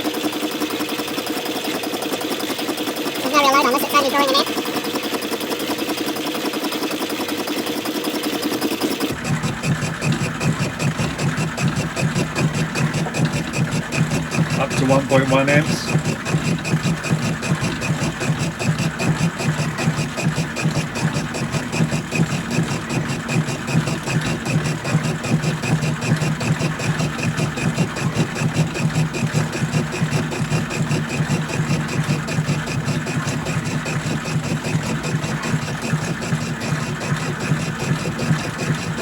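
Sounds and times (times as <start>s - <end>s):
metal lathe humming: 0.0s - 39.0s
regular pulsing of turning drive: 0.0s - 39.0s.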